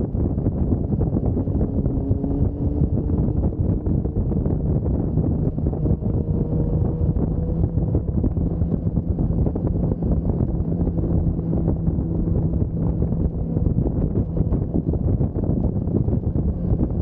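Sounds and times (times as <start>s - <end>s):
motorcycle engine running: 0.0s - 17.0s
wind buffeting on microphone: 0.0s - 17.0s.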